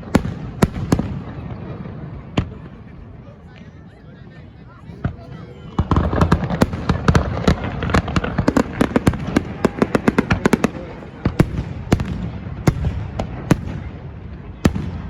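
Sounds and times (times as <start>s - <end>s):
fireworks crackling and banging: 0.0s - 3.7s, 4.4s - 15.0s.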